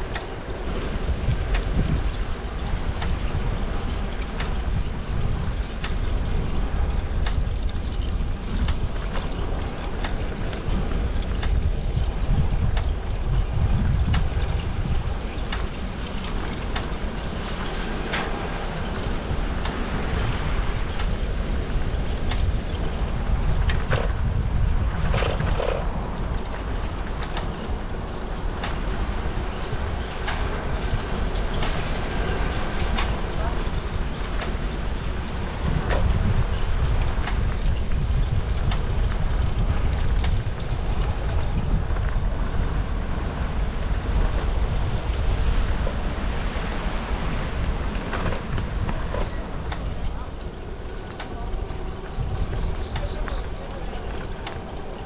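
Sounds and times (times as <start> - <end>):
rolling rumble: 0.0 - 55.0
wind buffeting microphone: 0.0 - 55.0.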